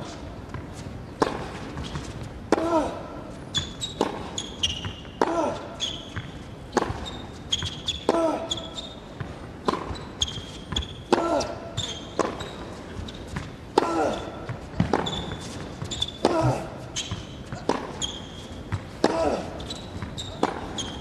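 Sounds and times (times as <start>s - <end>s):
shoes squeaking on court: 0.0s - 21.0s
racquet striking tennis ball: 0.5s - 2.9s, 4.0s - 8.4s, 9.2s - 12.6s, 13.3s - 21.0s.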